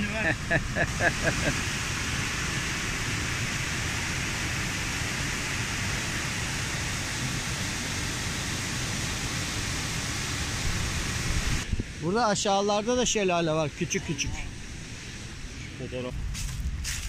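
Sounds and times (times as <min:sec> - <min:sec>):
water rushing over waterfall: 0:00.0 - 0:14.7.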